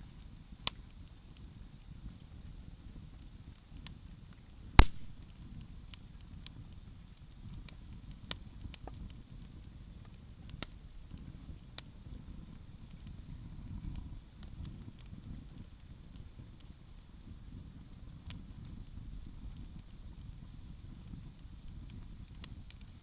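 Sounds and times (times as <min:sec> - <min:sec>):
burning wood popping: 0:00.0 - 0:23.0
campfire crackling: 0:00.0 - 0:23.0
low steady rumble: 0:00.0 - 0:23.0.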